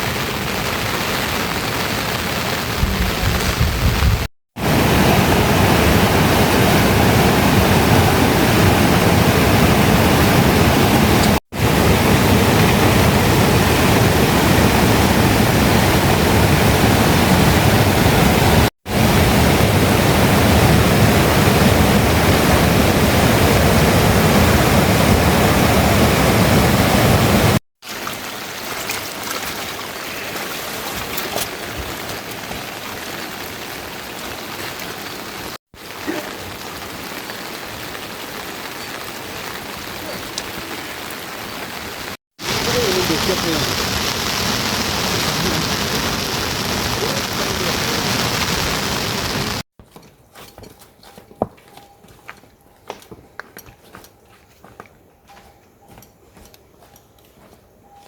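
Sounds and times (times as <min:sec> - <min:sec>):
rain with drop impacts: 0:00.0 - 0:49.6
rushing water: 0:00.0 - 0:49.7.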